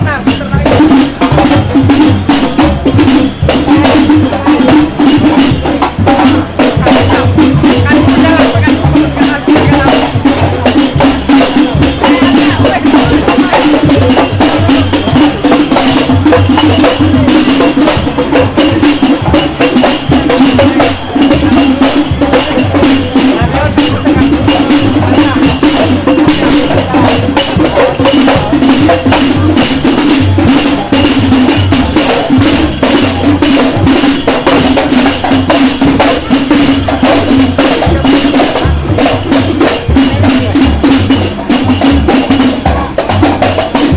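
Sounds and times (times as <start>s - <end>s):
low percussion beat: 0.0s - 43.9s
tambourine jingles: 0.0s - 43.9s.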